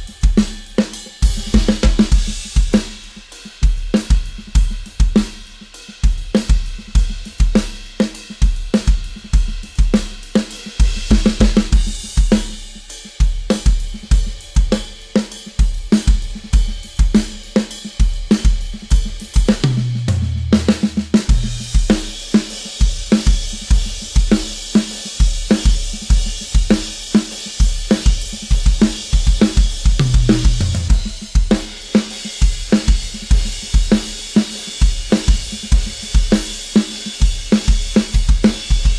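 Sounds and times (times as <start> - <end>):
drum kit groove: 0.0 - 38.9.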